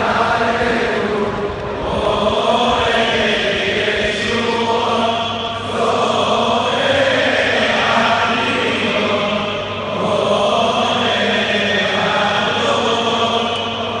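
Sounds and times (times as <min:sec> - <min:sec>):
crowd chanting prayers: 0:00.0 - 0:14.0.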